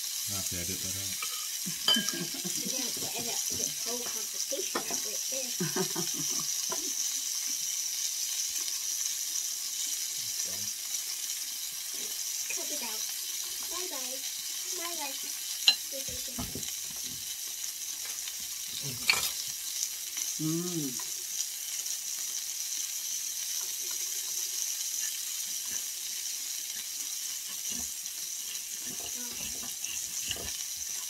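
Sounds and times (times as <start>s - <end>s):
meat sizzling on hot grill: 0.0s - 31.0s.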